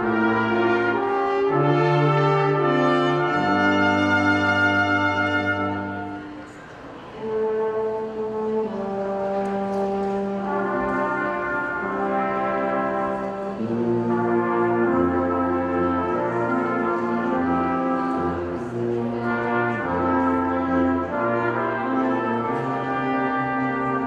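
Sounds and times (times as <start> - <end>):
brass ensemble playing chords: 0.0 - 24.0.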